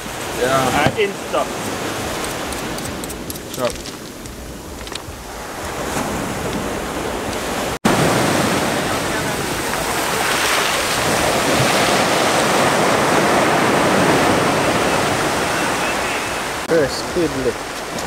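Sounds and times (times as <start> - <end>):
surf breaking on shore: 0.0 - 18.0.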